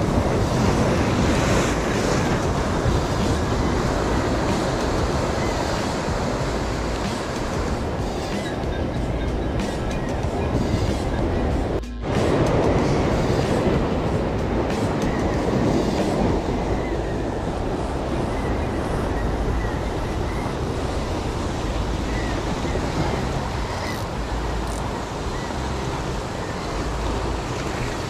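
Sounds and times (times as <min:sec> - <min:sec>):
ocean surf breaking over rocks: 0:00.0 - 0:28.0
wind buffeting microphone: 0:00.0 - 0:28.0.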